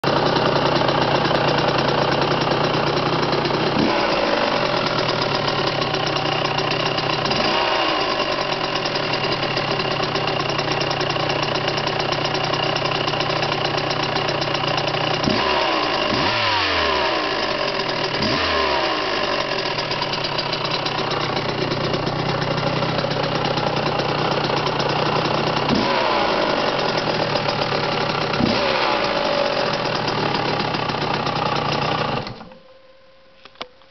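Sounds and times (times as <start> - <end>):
motorcycle engine idling and revving: 0.0 - 32.6.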